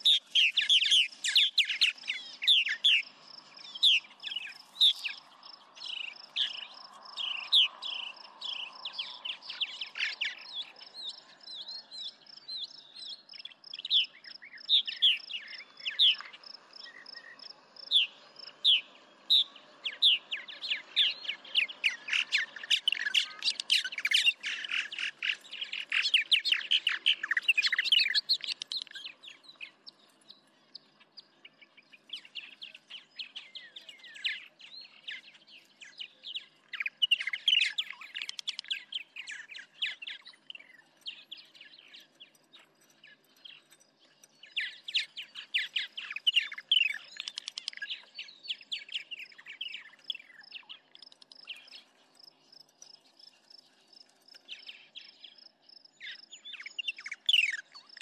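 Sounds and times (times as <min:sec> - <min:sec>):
songbirds chirping and singing: 0:00.0 - 0:58.0.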